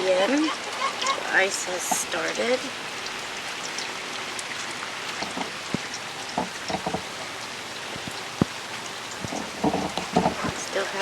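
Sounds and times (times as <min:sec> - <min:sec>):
freezing rain ticking: 0:00.0 - 0:11.0.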